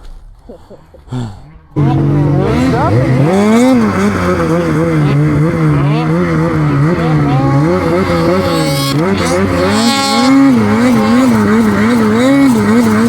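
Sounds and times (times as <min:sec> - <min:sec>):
snowmobile engine revving: 0:01.8 - 0:13.0.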